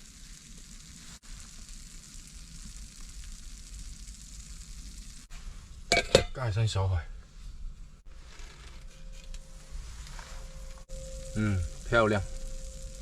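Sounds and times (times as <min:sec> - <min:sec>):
rice sizzling in oil: 0:00.0 - 0:06.8, 0:08.0 - 0:13.0.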